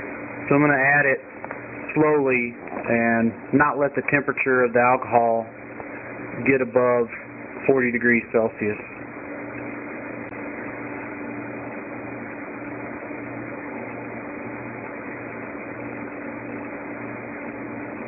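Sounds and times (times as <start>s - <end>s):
machine hum and hiss: 0.0s - 18.0s
pulsing low hum: 0.0s - 18.0s.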